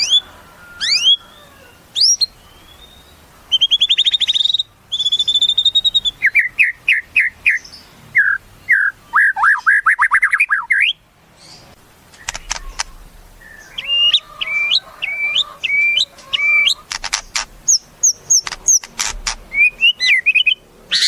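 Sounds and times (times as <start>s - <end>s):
bird singing varied song: 0.0s - 21.0s.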